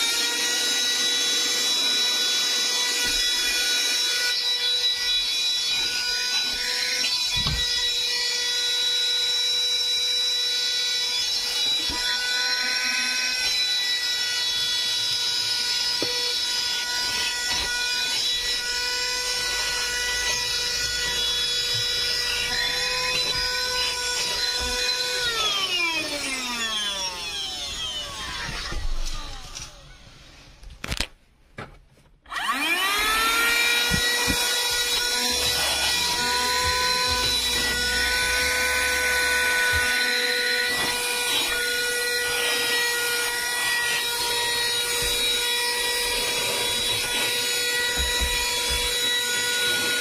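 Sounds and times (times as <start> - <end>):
handheld vacuum whining: 0.0 - 31.0, 32.2 - 50.0.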